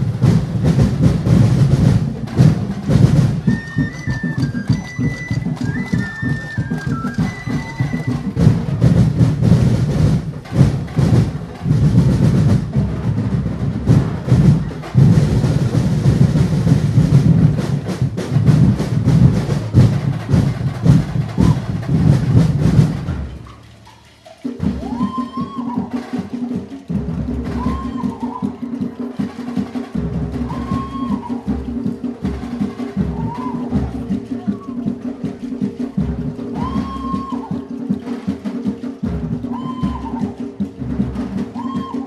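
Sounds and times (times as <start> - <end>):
drum and percussion ensemble: 0.0 - 42.0.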